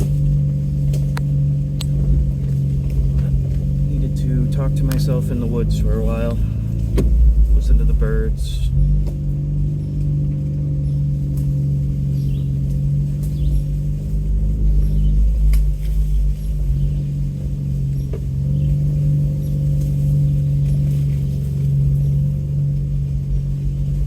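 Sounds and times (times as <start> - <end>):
deep rumble: 0.0 - 24.0
vehicle engine droning: 0.0 - 24.0.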